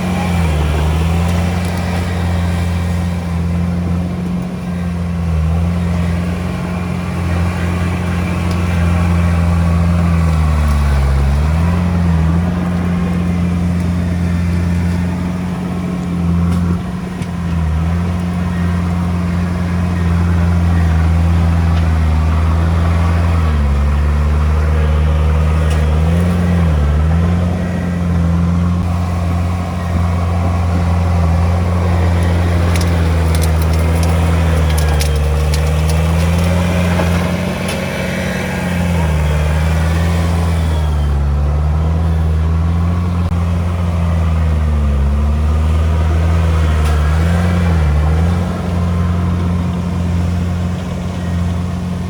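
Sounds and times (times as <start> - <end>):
bulldozer diesel engine: 0.0 - 52.0.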